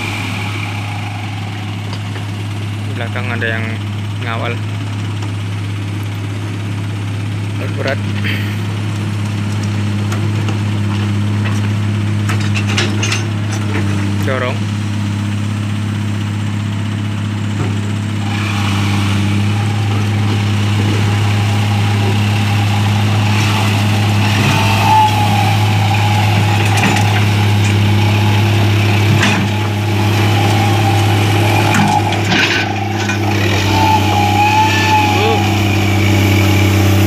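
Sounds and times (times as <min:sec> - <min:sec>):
diesel engines running under load: 0:00.0 - 0:37.0.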